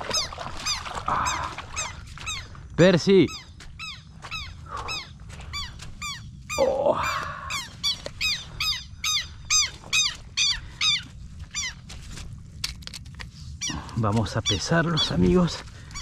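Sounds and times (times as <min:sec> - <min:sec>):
animal high-pitched calls: 0:00.0 - 0:02.6, 0:03.3 - 0:11.9, 0:13.6 - 0:16.0.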